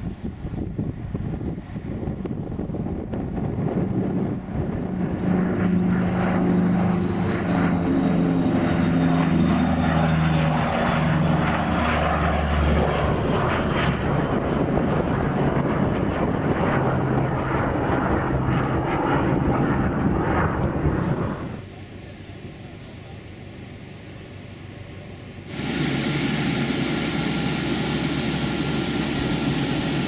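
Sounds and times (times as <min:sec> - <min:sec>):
propeller plane flying past: 0:00.0 - 0:30.0.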